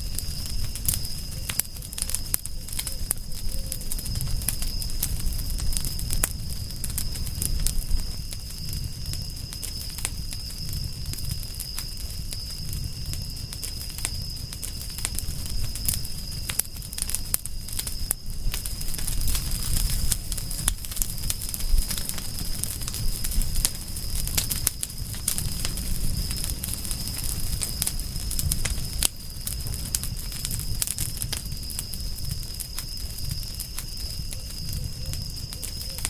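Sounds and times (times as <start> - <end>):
low rumble of burning: 0.0 - 36.0
wood fire crackling and popping: 0.0 - 36.0.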